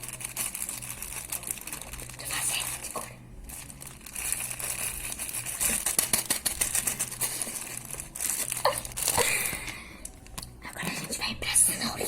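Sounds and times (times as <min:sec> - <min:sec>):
dense crinkling and crackling: 0:00.0 - 0:11.2.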